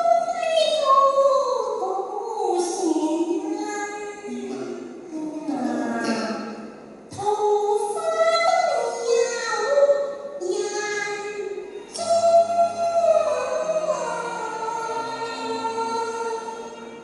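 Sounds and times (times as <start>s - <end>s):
woman singing opera: 0.0s - 6.3s, 7.1s - 17.0s.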